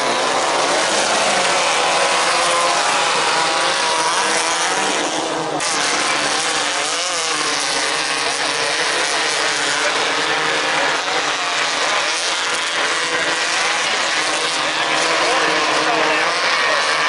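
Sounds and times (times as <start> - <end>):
race buggy engines accelerating: 0.0 - 17.0
steady rush of noise: 0.0 - 17.0.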